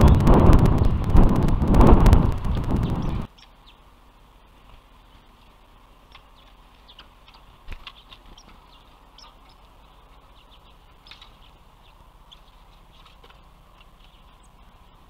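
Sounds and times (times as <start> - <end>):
faint steady hum: 0.0 - 15.0
songbirds chirping: 2.3 - 15.0.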